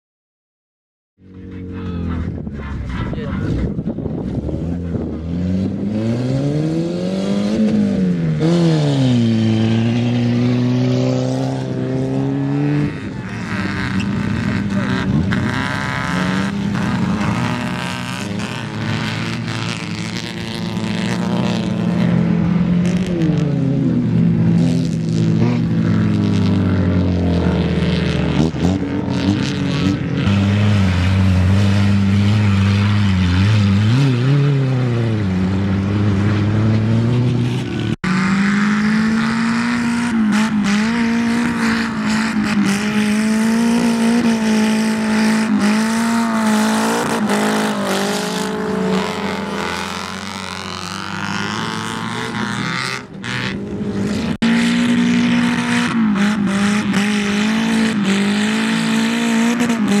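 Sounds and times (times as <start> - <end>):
car engines revving hard: 1.2 - 60.0.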